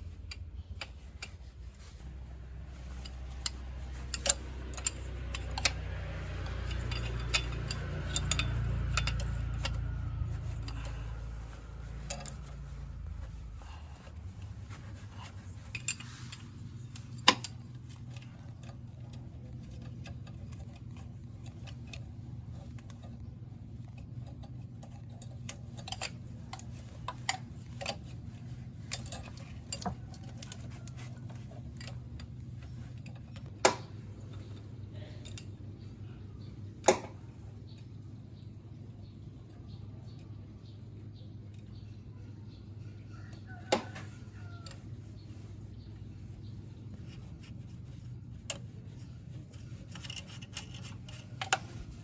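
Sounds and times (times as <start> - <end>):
light clicks and clinks: 0.0 - 33.5, 34.1 - 38.0, 42.6 - 52.0
steady low hum: 0.0 - 52.0.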